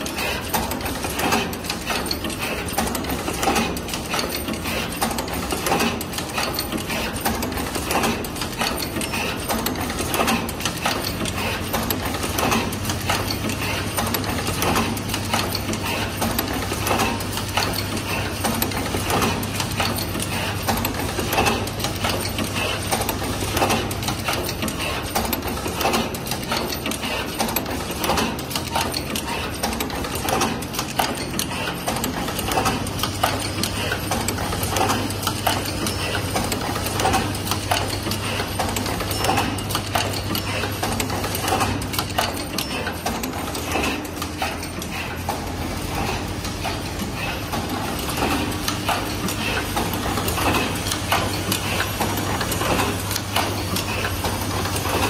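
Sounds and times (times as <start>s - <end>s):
machine clattering clicks: 0.0s - 55.0s.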